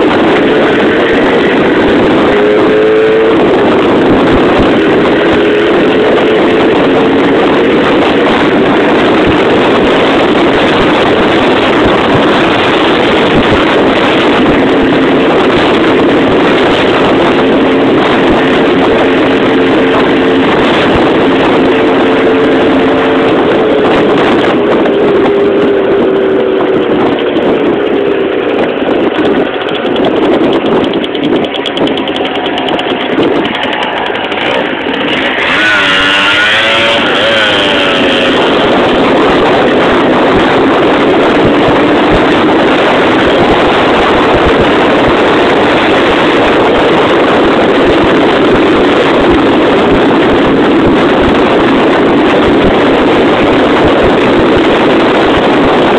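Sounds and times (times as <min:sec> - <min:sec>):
motorcycle engine running: 0:00.0 - 0:55.9
wind rush over microphone: 0:00.0 - 0:55.9.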